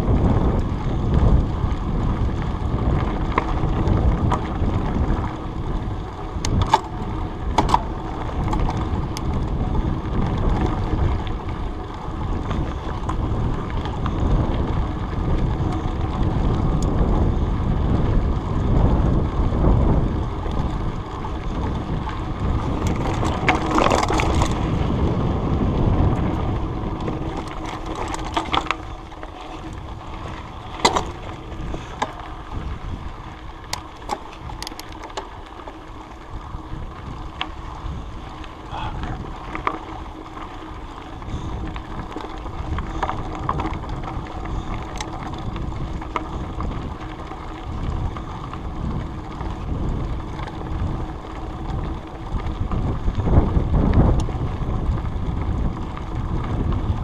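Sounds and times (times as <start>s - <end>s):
bike clicks and rattles: 0.0s - 57.0s
tyres rumbling on dirt trail: 0.0s - 57.0s
wind buffeting: 0.0s - 57.0s.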